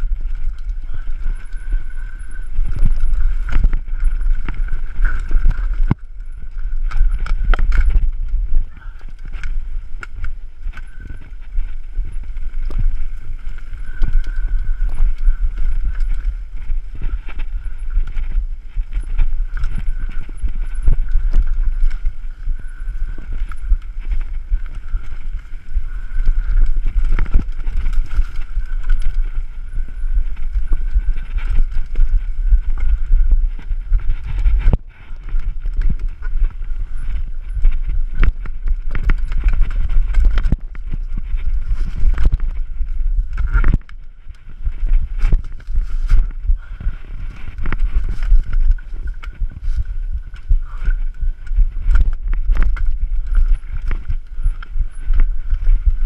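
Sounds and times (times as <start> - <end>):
bike rattling over rocks: 0.0 - 56.0
wind rumble on microphone: 0.0 - 56.0.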